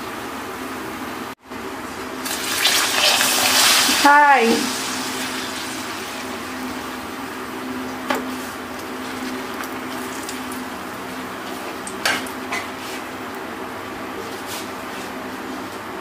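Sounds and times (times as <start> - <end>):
deep-frying sizzle: 1.9 - 14.9.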